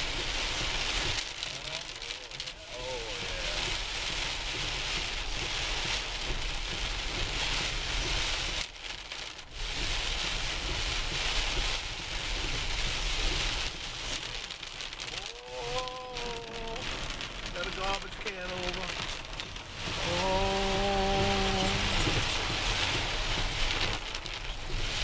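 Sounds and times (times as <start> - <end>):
heavy rain on car roof: 0.0 - 25.0
low road rumble: 0.0 - 25.0.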